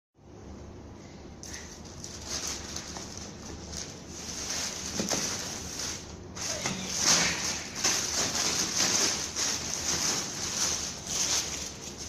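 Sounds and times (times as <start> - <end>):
packaging rustling with knocks: 2.0 - 12.0.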